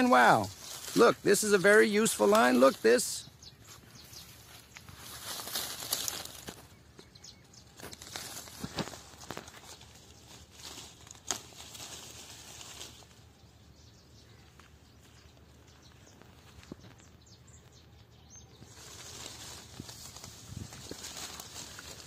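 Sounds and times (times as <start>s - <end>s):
leaves rustling: 0.0s - 7.0s, 7.6s - 17.2s, 18.5s - 22.0s.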